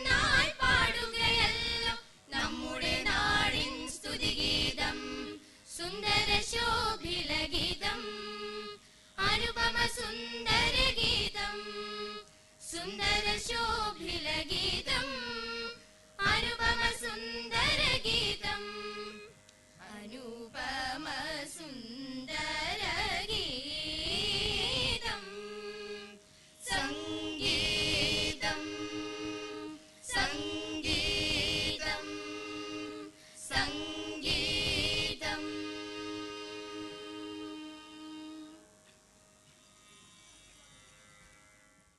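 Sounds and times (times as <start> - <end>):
group of teenagers singing: 0.0 - 19.3, 20.2 - 21.6, 22.2 - 38.6.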